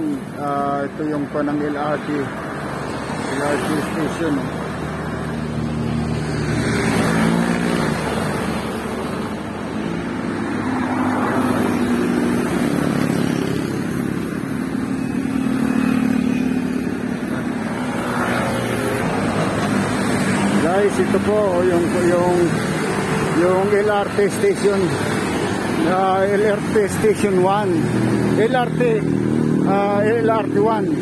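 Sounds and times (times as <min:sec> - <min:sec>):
cars driving past: 0:00.0 - 0:31.0
tyre and traffic hum: 0:00.0 - 0:31.0
motorcycles driving past: 0:01.3 - 0:31.0.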